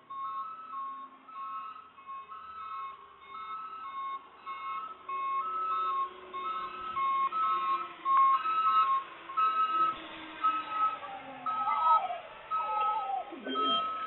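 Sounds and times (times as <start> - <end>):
two-tone alarm beeping: 0.1 - 14.0.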